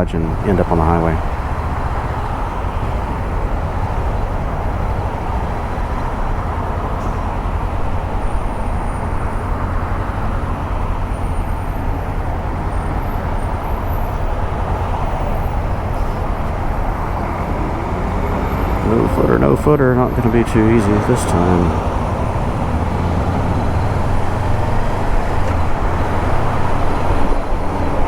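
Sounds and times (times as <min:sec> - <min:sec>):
motorcycle road noise: 0:00.0 - 0:28.0.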